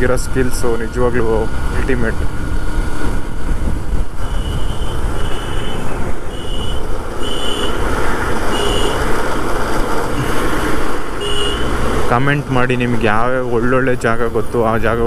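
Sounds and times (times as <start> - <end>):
motorcycle riding at speed: 0.0 - 15.0.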